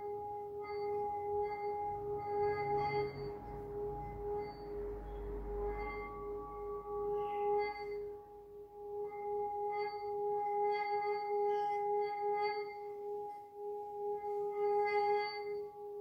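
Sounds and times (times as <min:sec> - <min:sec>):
singing bowl ringing hum: 0:00.0 - 0:16.0.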